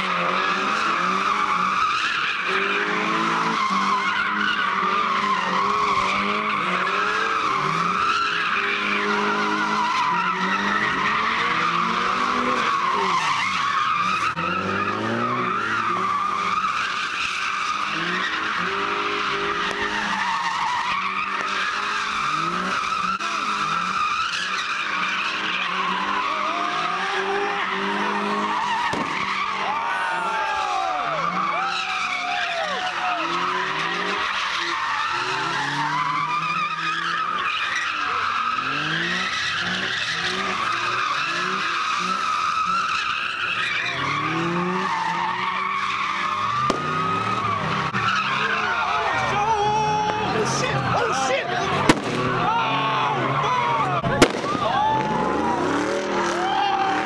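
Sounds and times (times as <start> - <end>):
car engines revving: 0.0 - 57.0
tyres squealing: 0.1 - 55.7.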